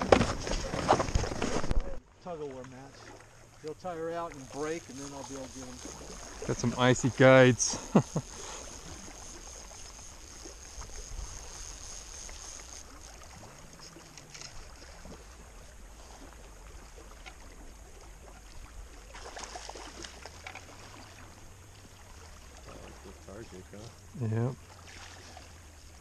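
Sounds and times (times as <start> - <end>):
person wading through water: 0.0 - 26.0.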